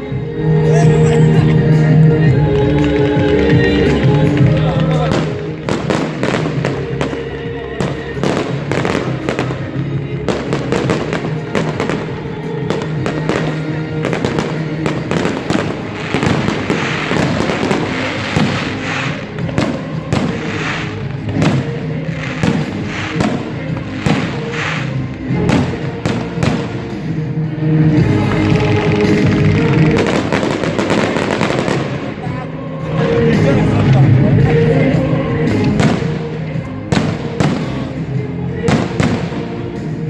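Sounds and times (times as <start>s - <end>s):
loud music over speakers: 0.0s - 40.0s
fireworks bangs and crackles: 1.8s - 40.0s.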